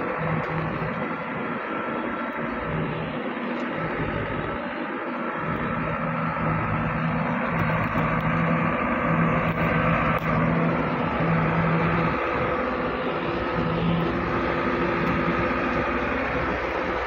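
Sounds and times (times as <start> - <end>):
steady high whine: 0.0 - 17.0
truck diesel engine working hard: 0.0 - 17.0.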